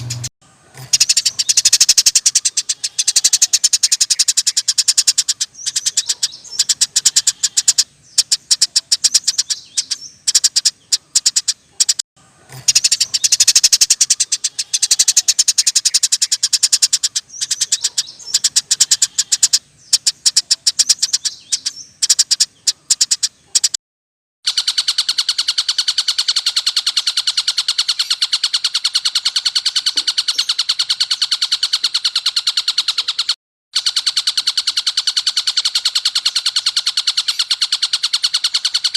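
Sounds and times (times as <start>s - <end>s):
songbirds fast rattling trills: 0.0s - 23.7s, 24.5s - 38.9s.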